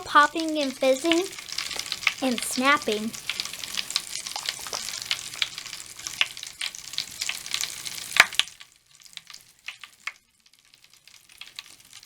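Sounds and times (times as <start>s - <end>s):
bath crackles popping in foam: 0.0s - 12.0s.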